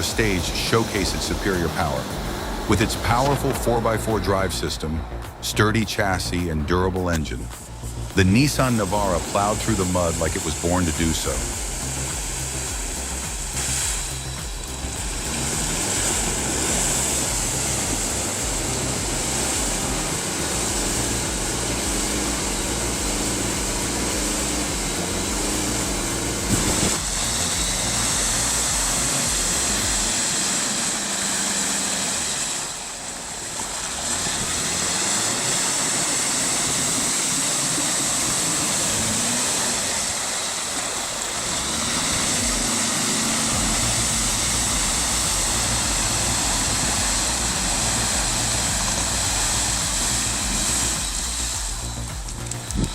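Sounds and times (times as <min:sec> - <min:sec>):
rushing hiss: 0:00.0 - 0:05.5, 0:07.1 - 0:52.9
truck engine running: 0:00.0 - 0:52.9.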